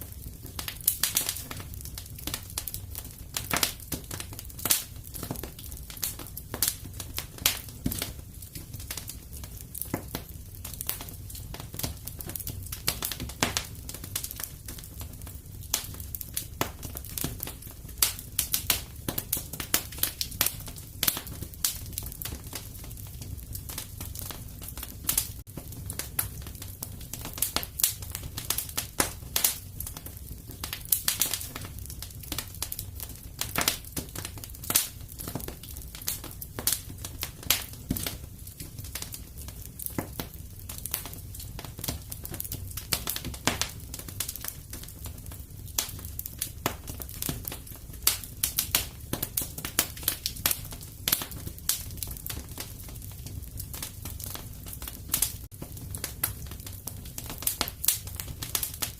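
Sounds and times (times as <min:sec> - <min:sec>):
low rumble of burning logs: 0:00.0 - 0:58.9
wood fire crackling and popping: 0:00.0 - 0:58.9.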